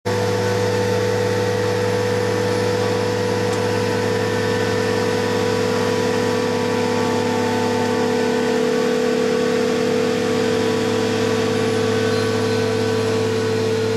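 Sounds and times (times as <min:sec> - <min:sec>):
diesel engine idling: 0:00.1 - 0:13.9.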